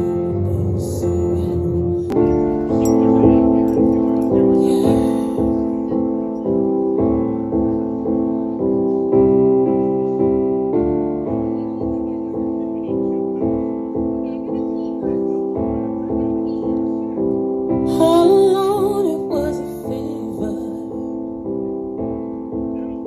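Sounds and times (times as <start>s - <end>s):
piano playing slow chords: 0.0s - 23.0s.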